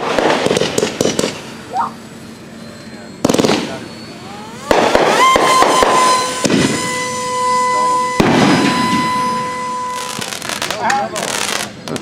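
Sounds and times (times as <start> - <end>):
fireworks bangs and crackling: 0.0 - 2.0, 3.2 - 12.0
high whistling tone: 1.7 - 12.0.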